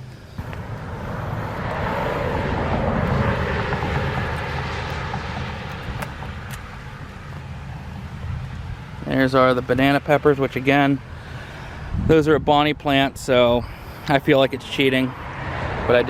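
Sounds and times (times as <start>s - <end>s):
passing vehicle engine: 0.0s - 12.1s, 13.7s - 16.0s.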